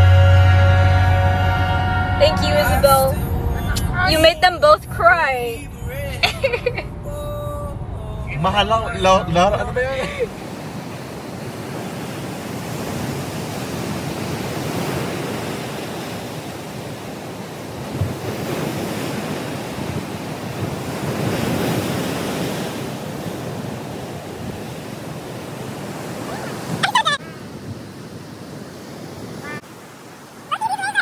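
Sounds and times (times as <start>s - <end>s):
wind: 0.0s - 31.0s
ocean surf breaking on rocks: 2.3s - 31.0s.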